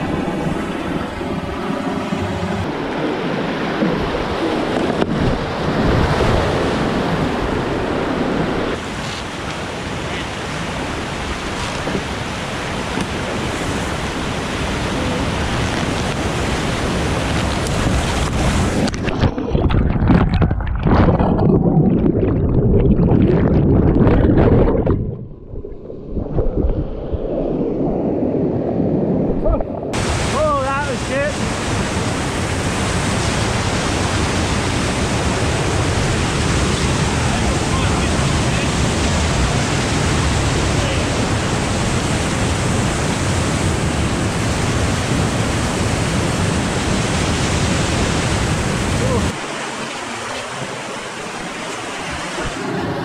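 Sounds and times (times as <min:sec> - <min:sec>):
whitewater rushing and splashing: 0:00.0 - 0:21.3, 0:29.4 - 0:53.0
muffled underwater surging: 0:00.0 - 0:53.0.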